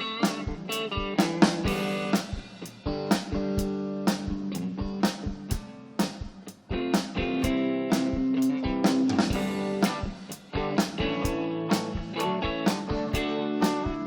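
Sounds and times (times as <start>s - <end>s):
steady drum beat: 0.0s - 14.0s
strummed guitar chords: 0.0s - 14.0s.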